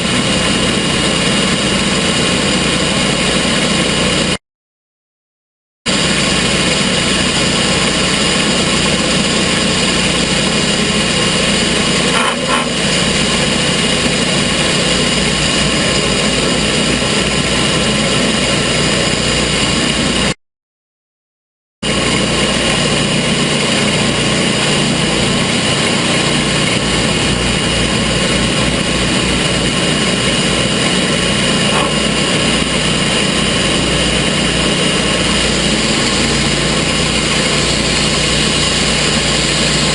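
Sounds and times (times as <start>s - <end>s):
sawmill gasoline engine running: 0.0s - 4.4s, 5.9s - 20.4s, 21.8s - 39.9s.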